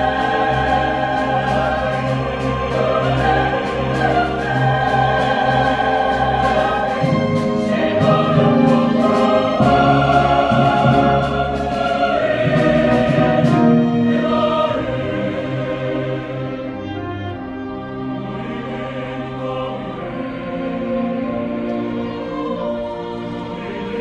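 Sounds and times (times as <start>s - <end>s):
choir singing: 0.0s - 24.0s
string orchestra: 0.0s - 24.0s.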